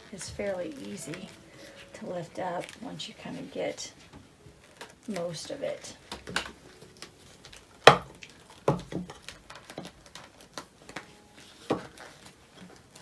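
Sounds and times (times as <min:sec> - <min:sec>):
paint skin peeling with crackles: 0:00.0 - 0:13.0.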